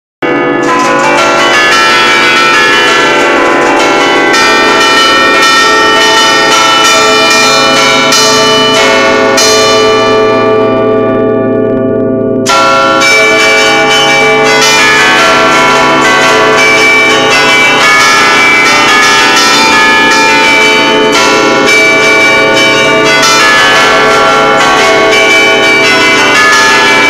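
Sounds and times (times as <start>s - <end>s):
church bells ringing melody: 0.2s - 27.0s.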